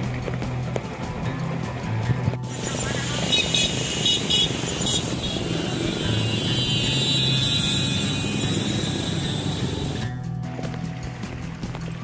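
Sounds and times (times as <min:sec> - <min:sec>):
background music: 0:00.0 - 0:12.0
street noise: 0:00.0 - 0:12.0.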